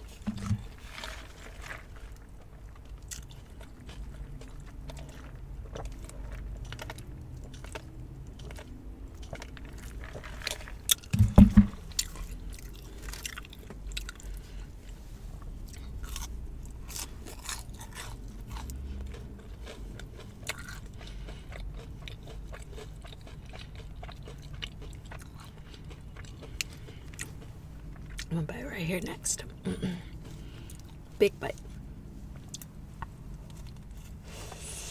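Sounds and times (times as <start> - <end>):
chewing and crunching food: 0.0 - 28.3, 30.0 - 34.9.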